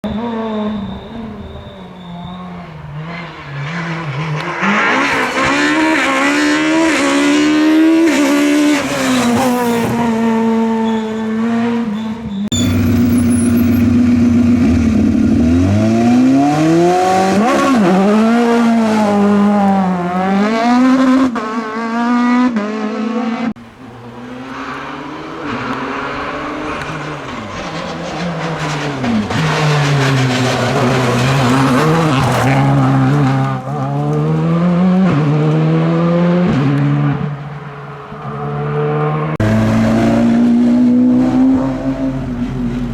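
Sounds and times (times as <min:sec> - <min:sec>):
rally car engines revving: 0:00.0 - 0:42.9.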